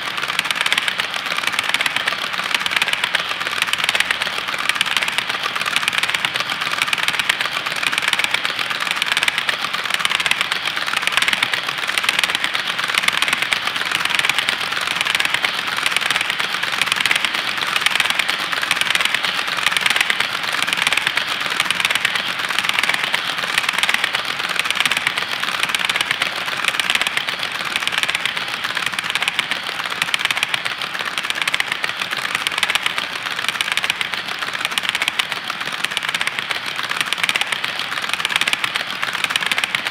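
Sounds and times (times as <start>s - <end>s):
model train wheels clicking: 0.0s - 39.9s.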